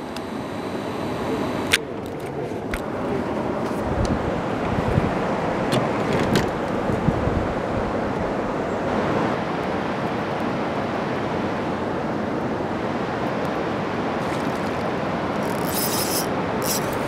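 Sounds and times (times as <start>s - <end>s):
river water rushing: 2.4s - 17.0s.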